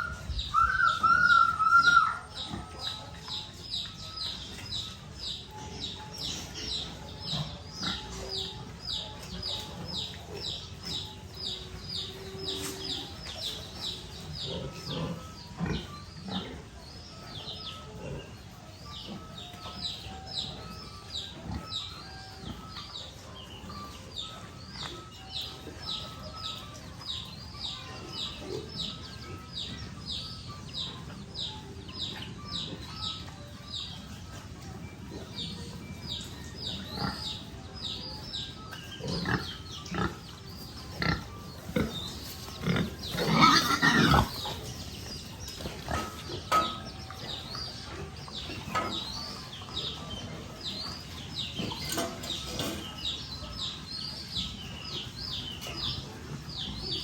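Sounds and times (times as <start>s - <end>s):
piglets grunting and squealing: 0.0s - 57.0s.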